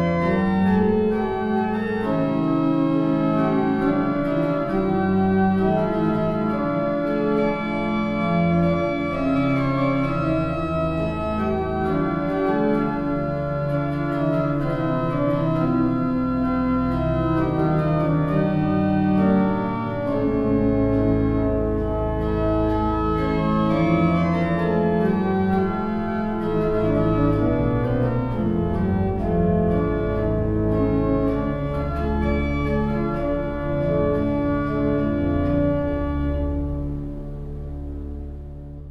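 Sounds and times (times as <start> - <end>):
organ chords: 0.0 - 38.9.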